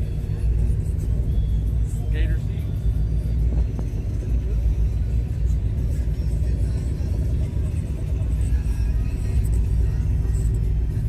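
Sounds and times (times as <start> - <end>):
deep low rumble: 0.0 - 11.0
music playing: 0.0 - 11.0.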